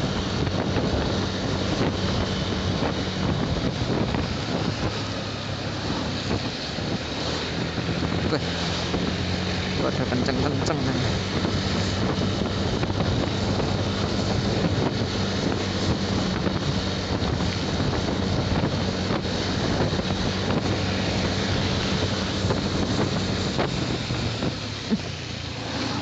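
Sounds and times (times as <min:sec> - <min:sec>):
motorcycle engine hum: 0:00.0 - 0:26.0
wind rushing over microphone: 0:00.0 - 0:26.0.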